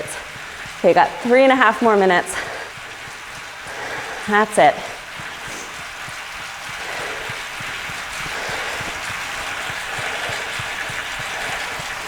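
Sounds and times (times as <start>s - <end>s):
indoor bike trainer hiss: 0.0s - 12.0s.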